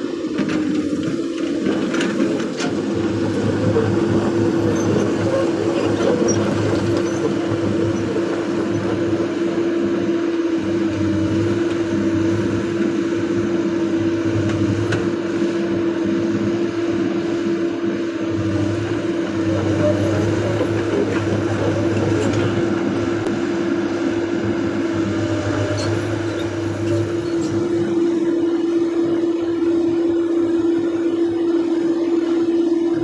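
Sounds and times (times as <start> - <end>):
excavator diesel engine droning: 0.0 - 33.0.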